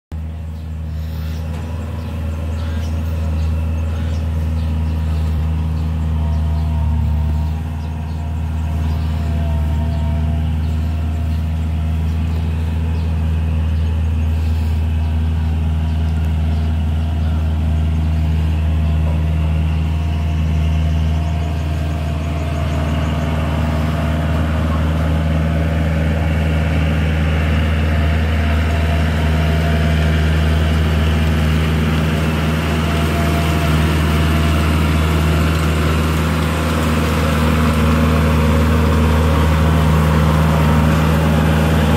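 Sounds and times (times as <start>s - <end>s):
tractor engine droning: 0.1s - 41.9s.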